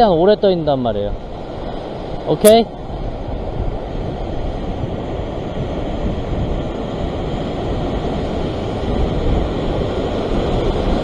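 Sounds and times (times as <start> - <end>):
surf washing against rocks: 0.0 - 11.0.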